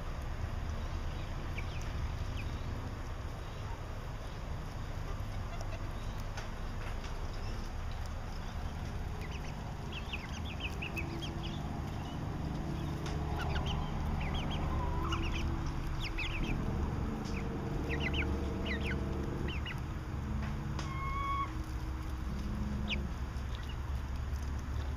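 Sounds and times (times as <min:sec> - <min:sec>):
steady low hum: 0:00.0 - 0:24.9
chicks peeping: 0:00.7 - 0:24.9.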